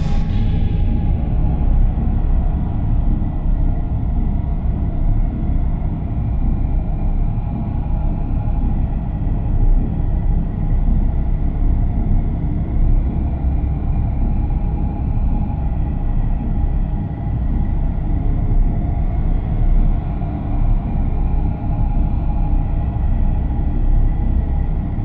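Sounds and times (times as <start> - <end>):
faint hum: 0.0 - 25.0
steady low rumble: 0.0 - 25.0.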